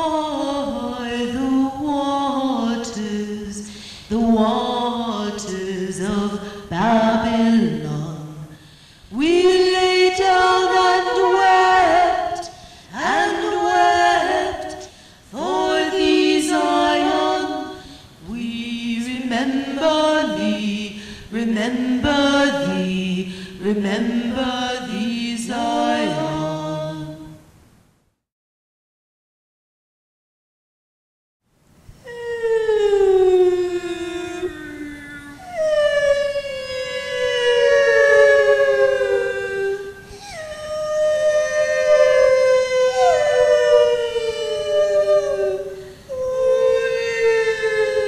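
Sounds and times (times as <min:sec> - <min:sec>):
unaccompanied chant-like singing: 0:00.0 - 0:27.4, 0:32.1 - 0:48.0.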